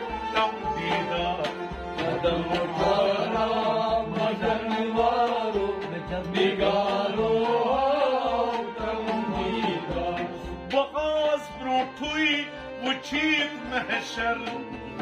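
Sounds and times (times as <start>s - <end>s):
hand drum beat: 0.0s - 12.3s
harmonium melody: 0.0s - 15.0s
person singing devotional song: 0.0s - 15.0s.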